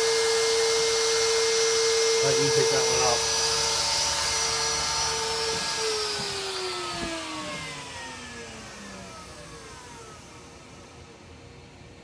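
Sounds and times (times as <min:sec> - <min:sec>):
router spindle whine spinning down: 0:00.0 - 0:11.8.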